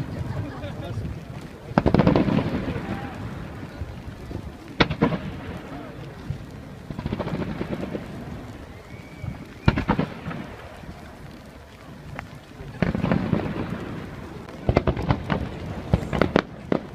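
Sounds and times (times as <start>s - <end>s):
fireworks bangs: 0.0s - 16.9s
fireworks crackling rumble: 0.0s - 16.9s.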